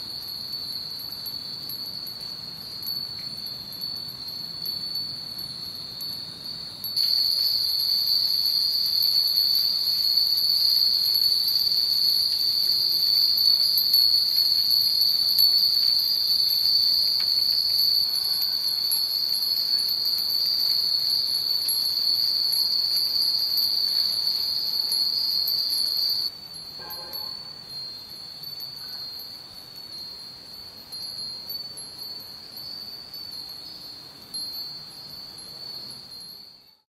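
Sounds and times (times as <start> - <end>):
metal wind chimes ringing: 0.0 - 36.8.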